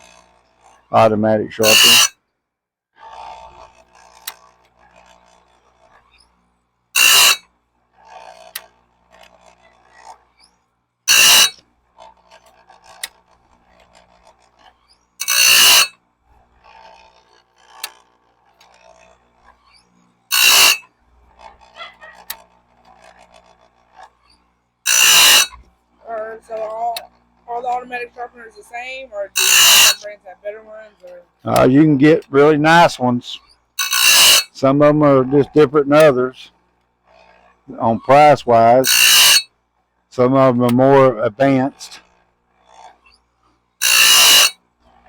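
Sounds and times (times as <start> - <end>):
grinding wheel on saw blade teeth: 0.0 - 2.2, 3.0 - 39.6, 40.2 - 45.0.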